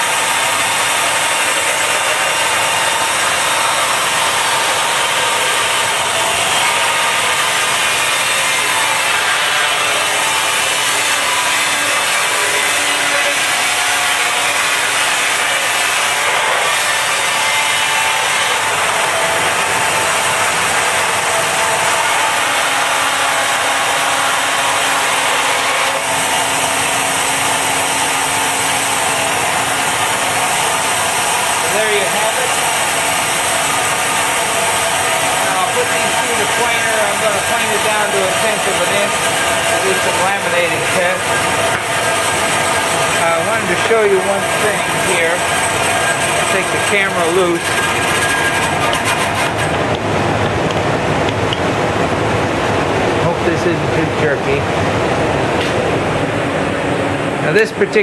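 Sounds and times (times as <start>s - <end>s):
band saw cutting board: 0.0s - 52.1s.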